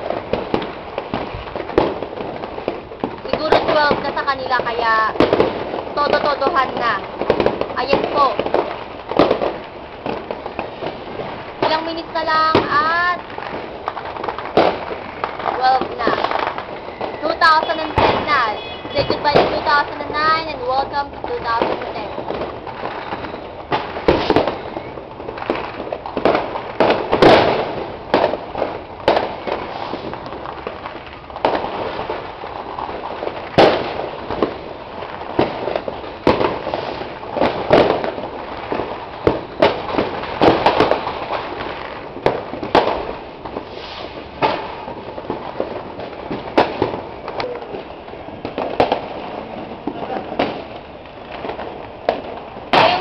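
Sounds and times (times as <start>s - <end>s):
fireworks crackling and banging: 0.0s - 53.0s.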